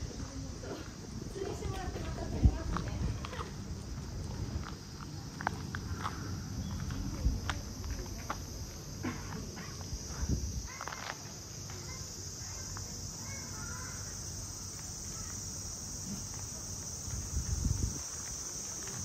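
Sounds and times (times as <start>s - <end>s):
insect chorus droning: 0.0s - 19.0s.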